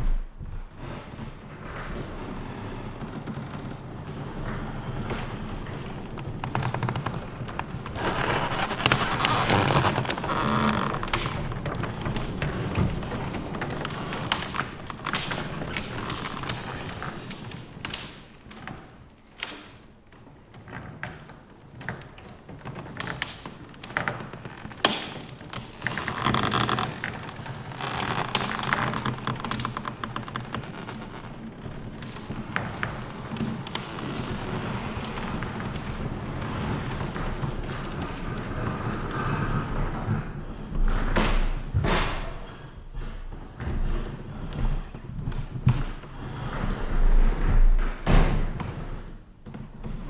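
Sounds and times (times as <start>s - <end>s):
wooden floor planks creaking: 0.0s - 50.0s.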